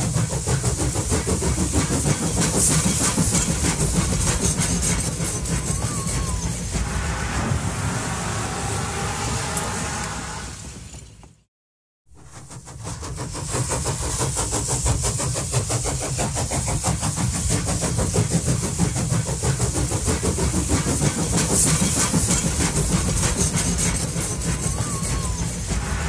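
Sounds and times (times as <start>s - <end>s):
tram wheels rumbling on rails: 0.0s - 11.5s, 12.1s - 26.0s.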